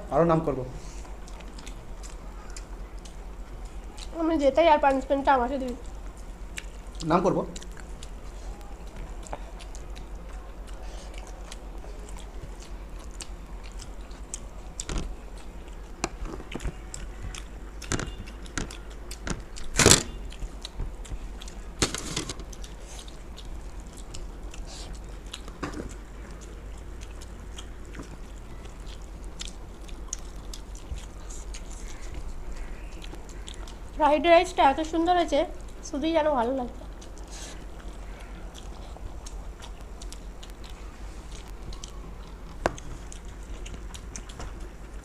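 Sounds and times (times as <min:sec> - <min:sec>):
people chewing food: 0:00.0 - 0:45.0.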